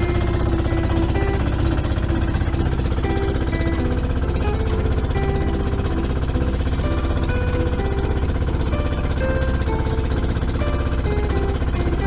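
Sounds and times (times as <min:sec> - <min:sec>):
boat engine knocking: 0:00.0 - 0:12.0.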